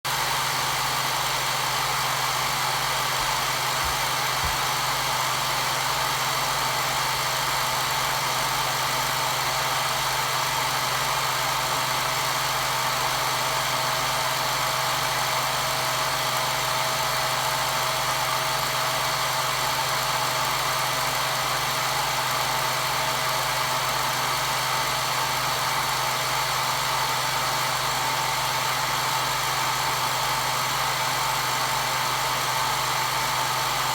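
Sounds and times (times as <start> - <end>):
hair dryer running: 0.4 - 33.9.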